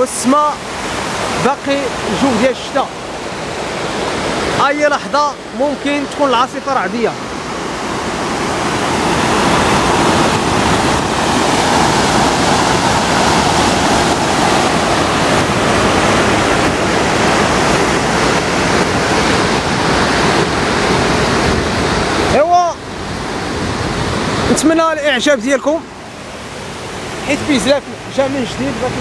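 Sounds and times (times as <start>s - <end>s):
floodwater rushing over stones: 0.0s - 29.0s.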